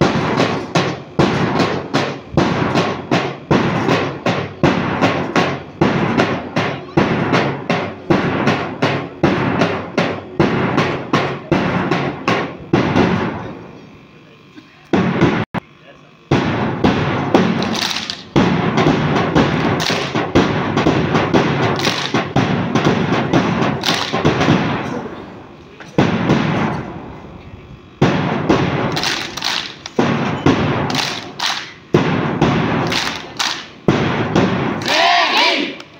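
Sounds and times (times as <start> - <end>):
drum beating steadily: 0.0 - 35.9.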